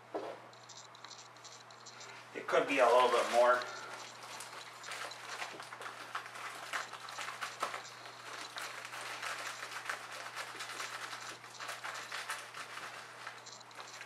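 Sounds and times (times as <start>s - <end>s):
plastic bag crinkling: 0.5s - 14.0s.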